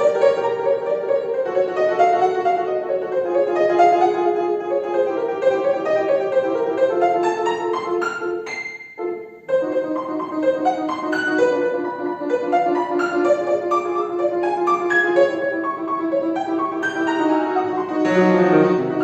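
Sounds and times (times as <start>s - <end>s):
solo piano playing fast notes: 0.0s - 19.0s.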